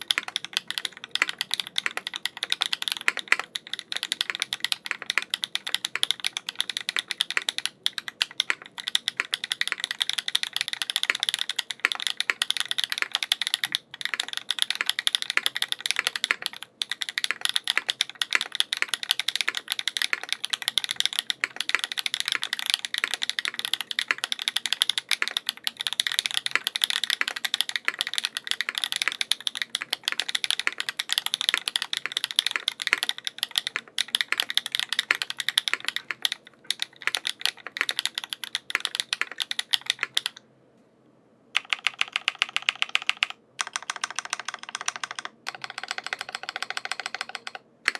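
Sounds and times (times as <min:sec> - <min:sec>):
mechanical keyboard typing: 0:00.0 - 0:40.4, 0:41.6 - 0:47.9.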